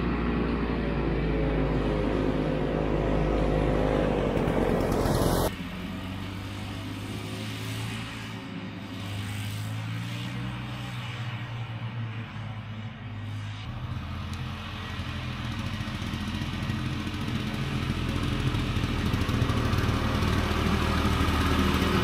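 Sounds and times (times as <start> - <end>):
snowmobile engine revving: 0.0 - 12.6, 13.2 - 22.0.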